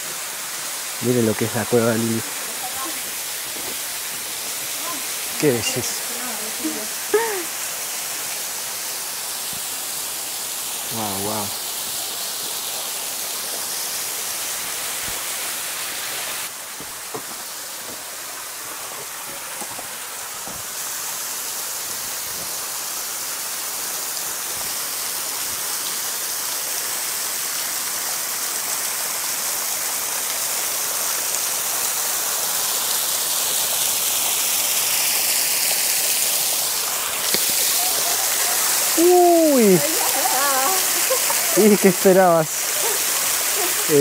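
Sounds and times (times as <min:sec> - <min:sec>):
waterfall rushing and splashing: 0:00.0 - 0:44.0.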